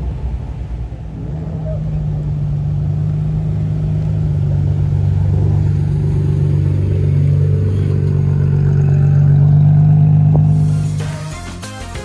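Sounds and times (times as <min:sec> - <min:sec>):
car exhaust rumbling: 0:00.0 - 0:11.0.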